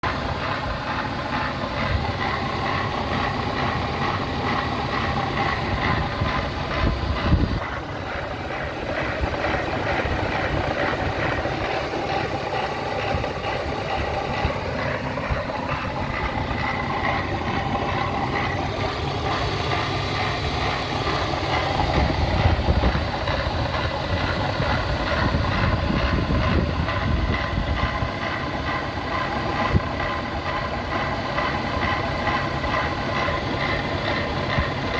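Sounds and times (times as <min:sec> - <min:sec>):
car engine idling roughly: 0:00.0 - 0:34.9
engine bump: 0:00.0 - 0:34.9
engine noise from front: 0:00.0 - 0:34.9.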